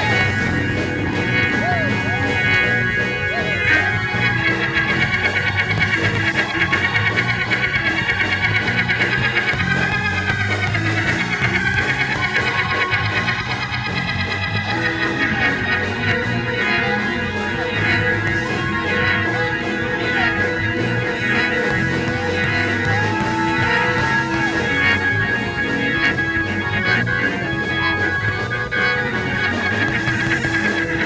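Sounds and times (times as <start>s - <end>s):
steady drum beat: 0.0s - 16.5s, 17.2s - 26.4s, 29.2s - 31.0s
sustained organ chords: 0.0s - 31.0s.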